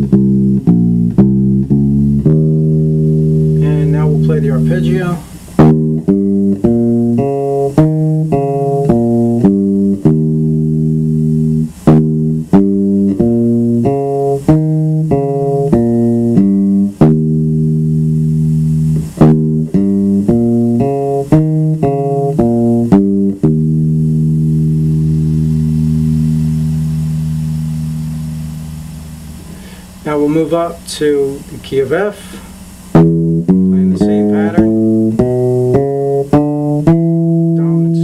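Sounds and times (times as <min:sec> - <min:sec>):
electric bass guitar playing scale: 0:00.0 - 0:38.0.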